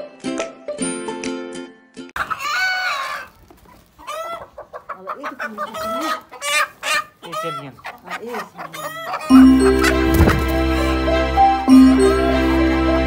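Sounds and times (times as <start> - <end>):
chickens clucking: 2.2 - 12.8.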